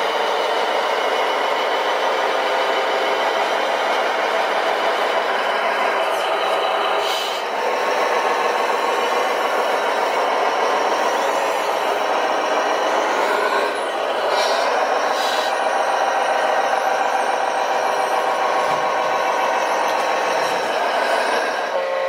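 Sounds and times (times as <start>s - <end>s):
toy truck diesel engine sound: 0.0s - 22.0s.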